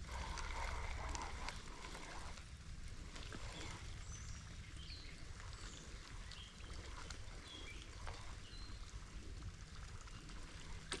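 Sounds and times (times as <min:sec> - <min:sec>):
low outdoor rumble: 0:00.0 - 0:11.0
rain patter: 0:00.0 - 0:11.0.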